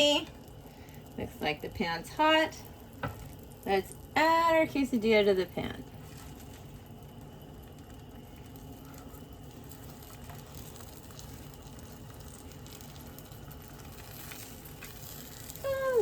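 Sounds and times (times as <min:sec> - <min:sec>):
faint sizzle in a pan: 0:00.0 - 0:16.0.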